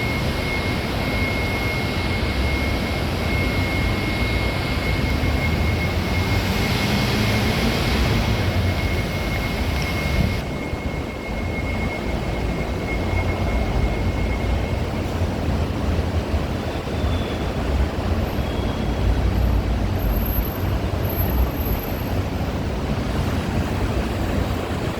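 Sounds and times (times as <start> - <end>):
faint high whine: 0.0 - 24.9
industrial fans running: 0.0 - 24.9.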